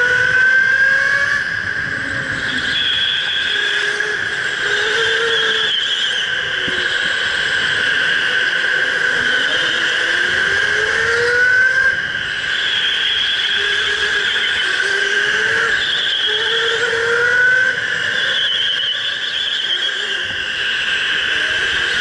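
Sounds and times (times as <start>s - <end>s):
electric go-kart motor whine: 0.0s - 22.0s.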